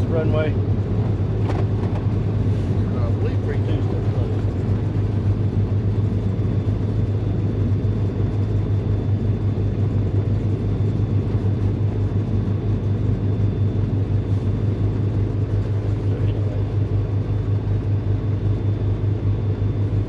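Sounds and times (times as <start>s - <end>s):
twin piston aircraft engines droning: 0.0s - 20.0s.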